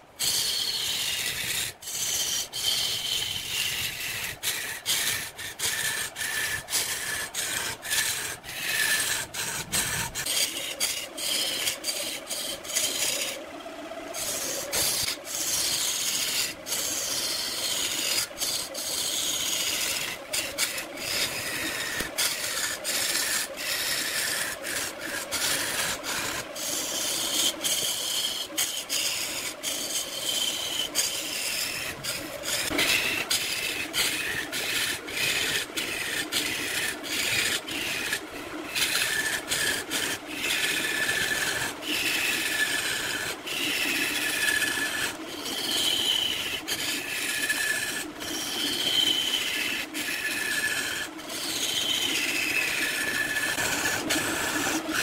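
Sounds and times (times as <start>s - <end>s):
lathe tool scraping wood: 0.0s - 55.0s.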